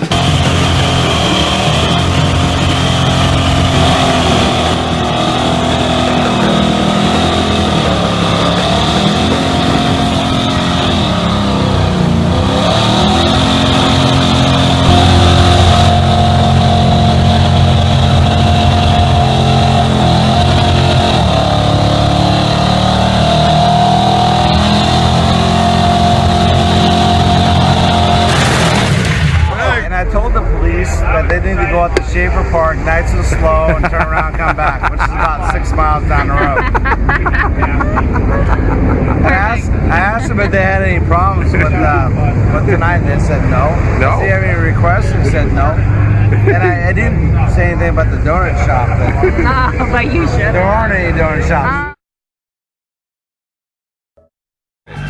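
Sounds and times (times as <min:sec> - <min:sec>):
car engine revving high: 0:00.0 - 0:29.6, 0:32.1 - 0:51.9.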